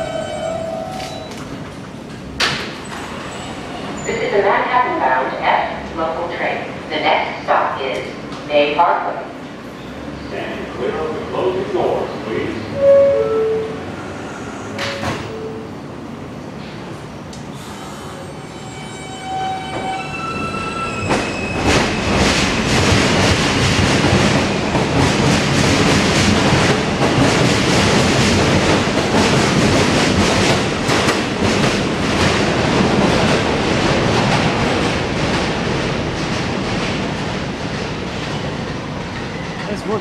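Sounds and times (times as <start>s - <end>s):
subway propulsion tones rising: 0.0s - 40.0s.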